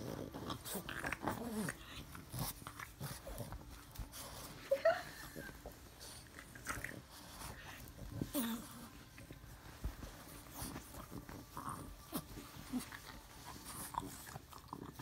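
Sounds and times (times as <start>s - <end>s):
puppy licking and scrabbling: 0.0s - 4.8s, 5.5s - 15.0s
puppy whining: 0.0s - 9.8s, 10.5s - 15.0s.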